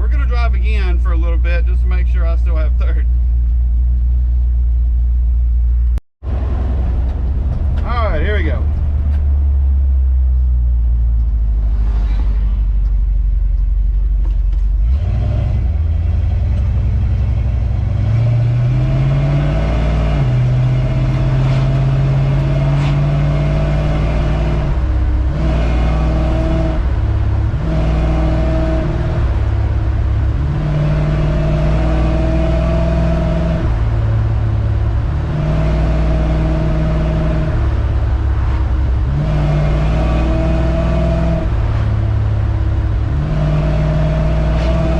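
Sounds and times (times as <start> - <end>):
truck engine accelerating: 0.0 - 44.9.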